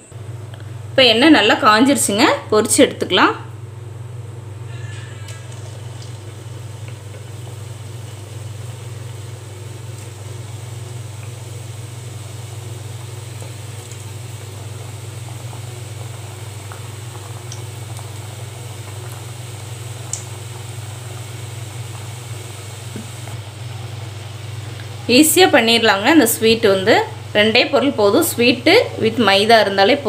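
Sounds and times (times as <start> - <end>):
dough sizzling in hot oil: 4.7 - 30.0.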